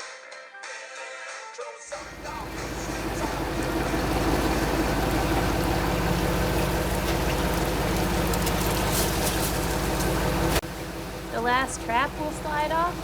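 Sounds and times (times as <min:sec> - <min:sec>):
boat engine running: 0:01.9 - 0:13.0
water washing along hull: 0:01.9 - 0:13.0.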